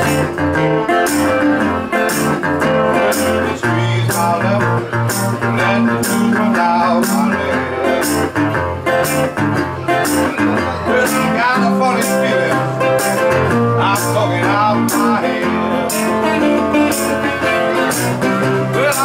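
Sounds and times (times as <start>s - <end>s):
slide resonator guitar blues: 0.0s - 19.0s.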